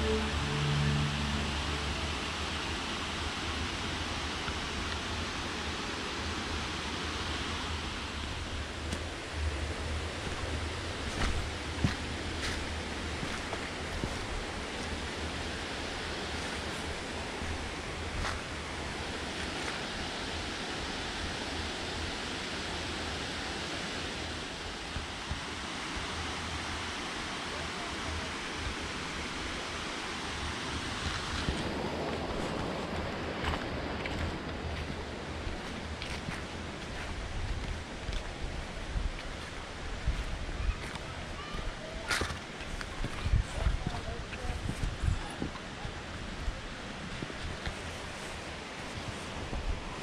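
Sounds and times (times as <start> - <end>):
stream rushing: 0.0 - 50.0.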